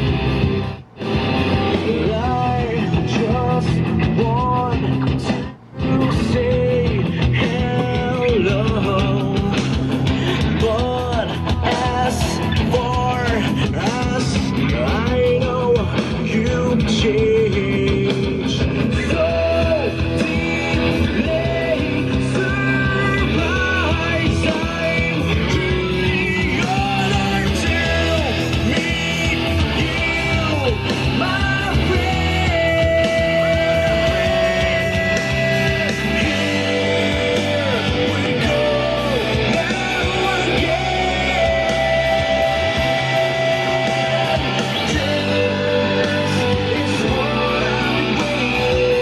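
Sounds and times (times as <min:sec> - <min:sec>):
rock song through speaker: 0:00.0 - 0:49.0.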